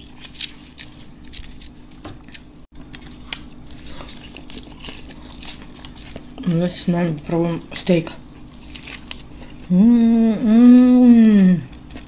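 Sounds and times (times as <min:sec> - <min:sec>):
faint steady hum: 0:00.0 - 0:12.0
person biting and chewing food: 0:00.0 - 0:12.0.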